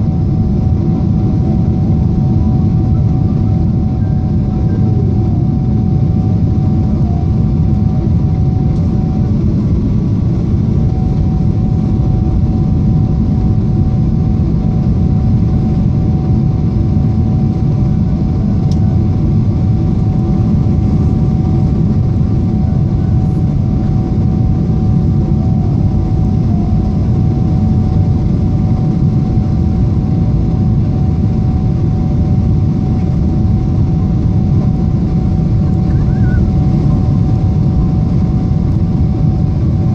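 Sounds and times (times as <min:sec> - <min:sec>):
airplane cabin rumble: 0:00.0 - 0:39.9
faint steady whine: 0:00.0 - 0:39.9.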